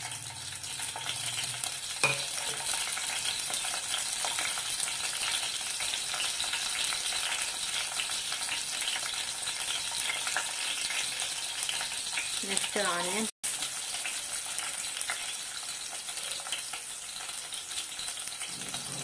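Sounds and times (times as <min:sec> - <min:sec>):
chillies sizzling in oil: 0:00.0 - 0:19.0.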